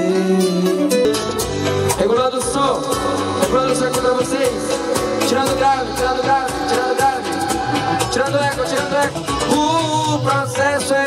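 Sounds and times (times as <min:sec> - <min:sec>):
karaoke backing track with beat: 0:00.0 - 0:11.0
man singing into microphone: 0:00.0 - 0:11.0.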